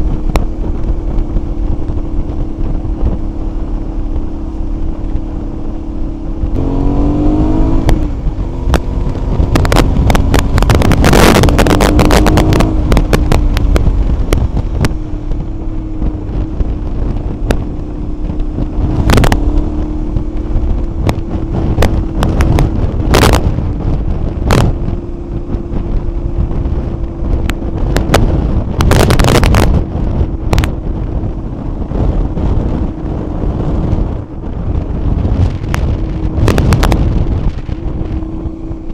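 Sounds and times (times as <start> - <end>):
motorcycle engine cruising: 0.0 - 38.9
wind buffeting microphone: 0.0 - 38.9.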